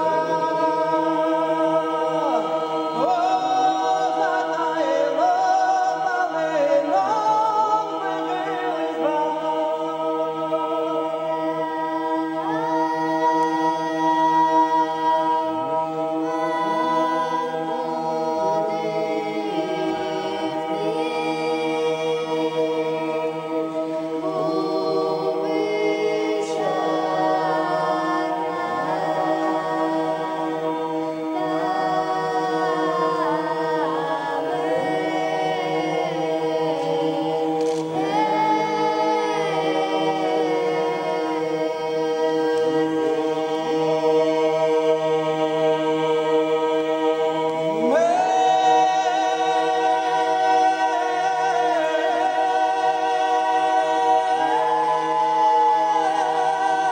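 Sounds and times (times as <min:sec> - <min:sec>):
church choir singing chant: 0:00.0 - 0:56.9.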